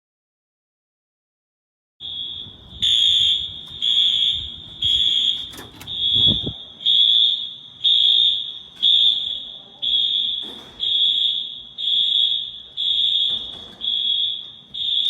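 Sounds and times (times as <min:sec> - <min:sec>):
fire alarm pulsing tone: 0:02.0 - 0:15.0.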